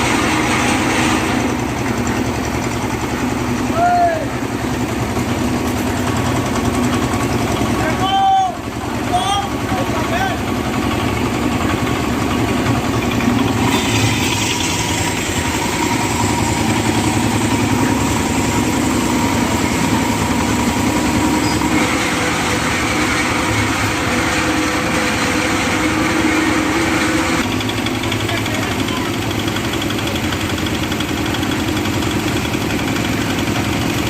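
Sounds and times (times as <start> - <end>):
small engine chugging: 0.0 - 34.0.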